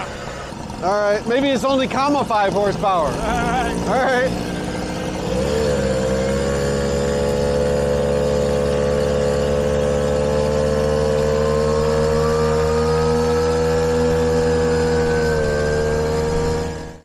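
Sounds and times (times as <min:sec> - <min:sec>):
moped engine running: 0:00.0 - 0:17.0
fainter higher engine note: 0:02.5 - 0:17.0.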